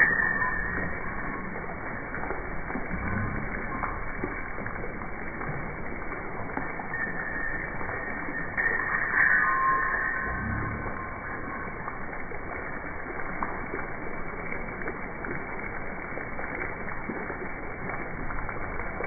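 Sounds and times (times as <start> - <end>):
fountain water splashing into pool: 0.0 - 19.0.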